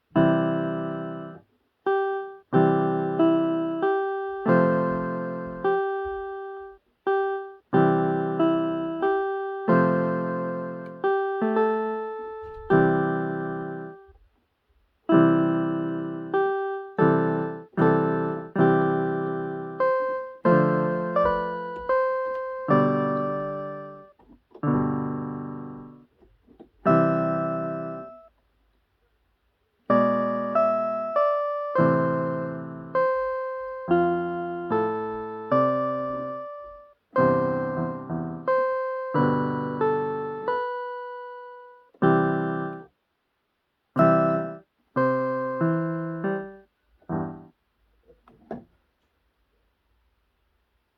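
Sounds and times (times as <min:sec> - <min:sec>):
slow piano chords: 0:00.0 - 0:14.2, 0:15.1 - 0:28.3, 0:29.9 - 0:42.9, 0:44.0 - 0:47.6.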